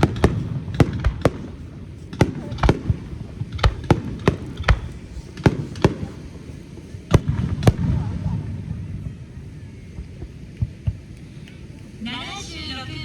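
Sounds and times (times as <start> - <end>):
fireworks bangs: 0.0 - 13.0
rumble of echoing reports: 0.0 - 13.0.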